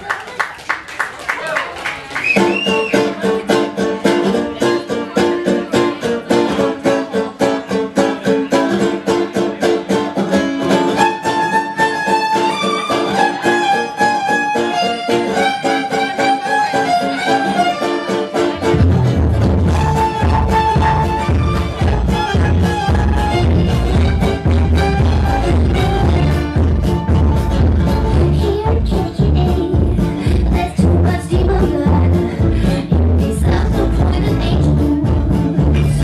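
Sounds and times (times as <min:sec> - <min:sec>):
fiddle-like melody: 0:02.4 - 0:36.0
strummed string rhythm: 0:02.4 - 0:36.0.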